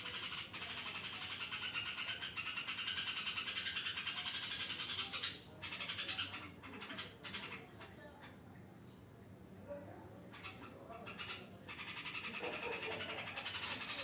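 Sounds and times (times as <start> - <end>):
bird pulsing high chatter: 0.0 - 7.8, 10.3 - 14.0.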